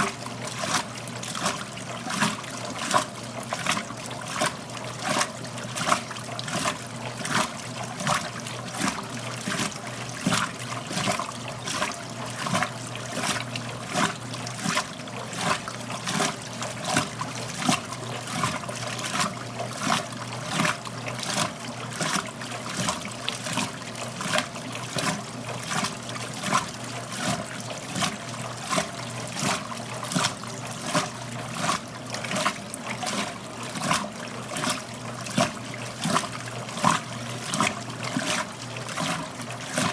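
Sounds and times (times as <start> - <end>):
washing machine motor hum: 0.0 - 39.9
water and laundry splashing: 0.0 - 39.9.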